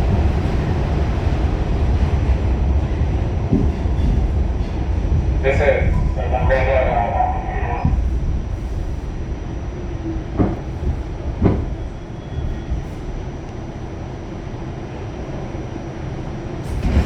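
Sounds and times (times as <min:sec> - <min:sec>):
subway train rumble: 0:00.0 - 0:17.0.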